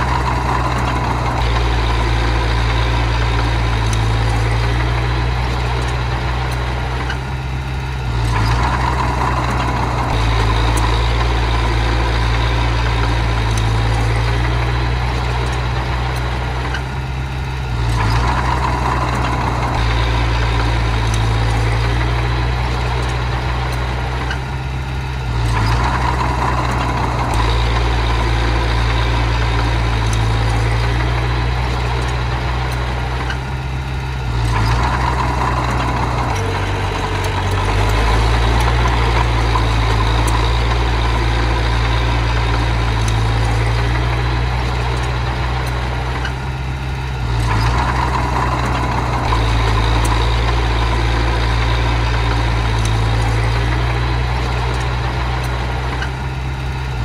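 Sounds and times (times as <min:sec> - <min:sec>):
bulldozer engine running: 0:00.0 - 0:57.0.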